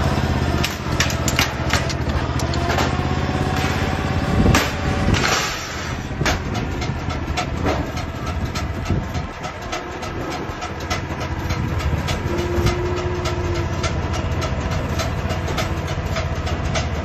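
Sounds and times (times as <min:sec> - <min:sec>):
machine humming: 0:00.0 - 0:17.0
metal clicking and clattering: 0:00.6 - 0:03.7, 0:04.5 - 0:17.0
metal scraping burst: 0:00.6 - 0:16.8.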